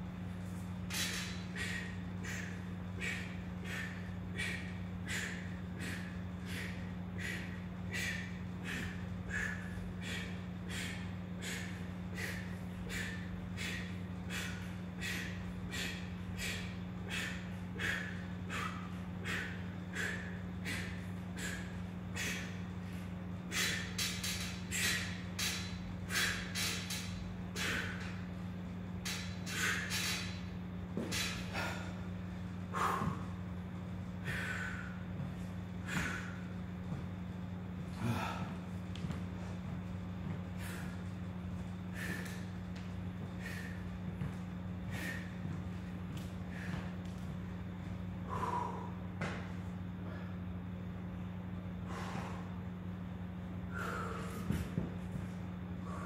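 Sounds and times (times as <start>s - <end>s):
steady low hum: 0.0s - 56.0s
man breathing hard: 0.5s - 56.0s.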